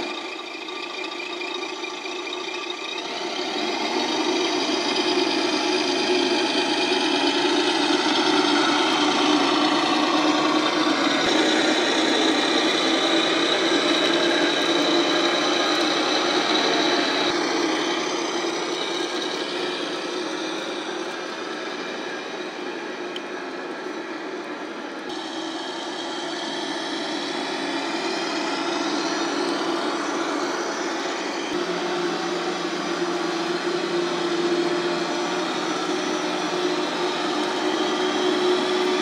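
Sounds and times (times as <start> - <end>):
high steady whine: 0.0 - 39.0
toy truck engine sound: 0.0 - 39.0.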